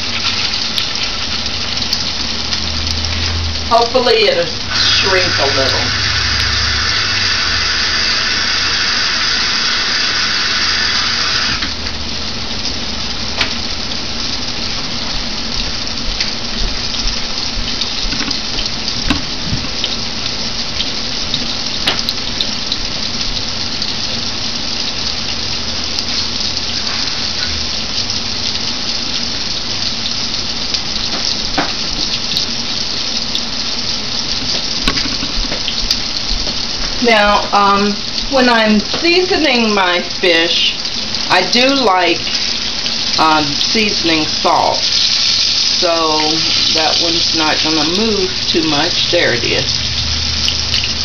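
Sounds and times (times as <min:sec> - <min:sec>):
bright hiss in sizzle: 0:00.0 - 0:51.0
fish deep-frying in oil: 0:00.0 - 0:51.0.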